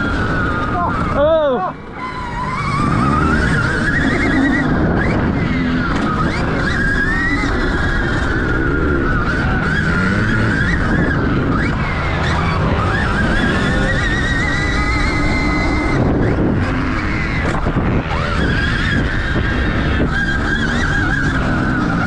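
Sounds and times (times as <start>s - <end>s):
wind and riding rumble: 0.0s - 22.0s.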